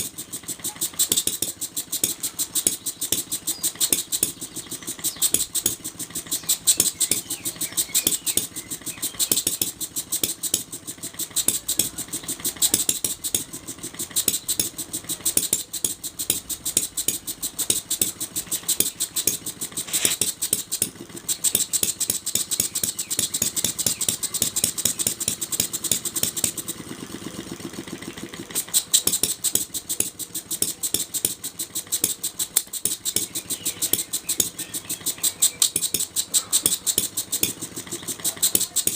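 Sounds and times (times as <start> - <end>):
small model engine running: 0.0 - 38.9.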